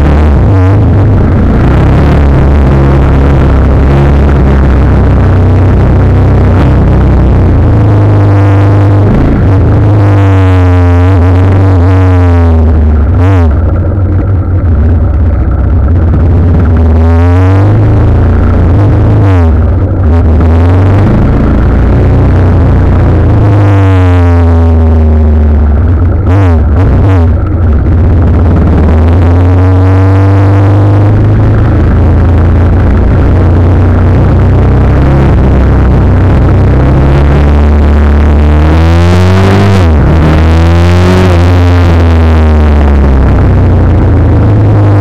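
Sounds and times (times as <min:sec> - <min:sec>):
electronic music with heavy bass: 0:00.0 - 0:14.0, 0:14.6 - 0:45.0
motorcycle engine revving: 0:00.0 - 0:45.0.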